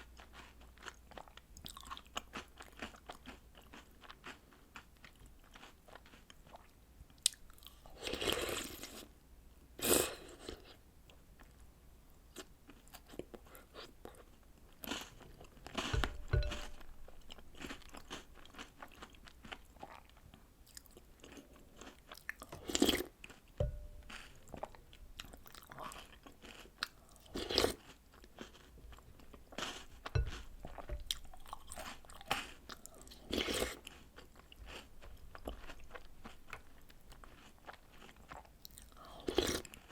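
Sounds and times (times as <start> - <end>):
chewing: 0.0 - 9.1, 12.4 - 39.9.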